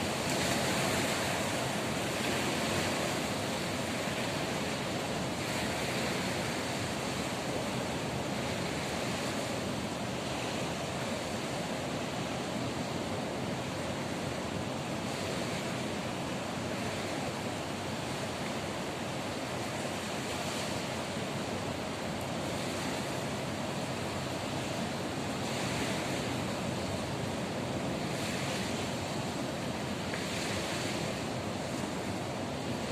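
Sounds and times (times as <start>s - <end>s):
ocean surf washing ashore: 0.0s - 32.9s.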